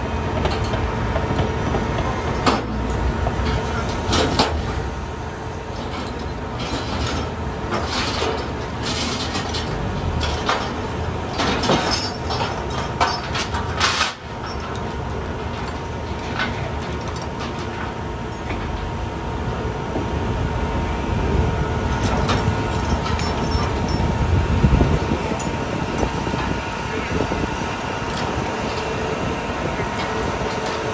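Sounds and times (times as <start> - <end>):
heavy vehicle engines idling: 0.0 - 30.9.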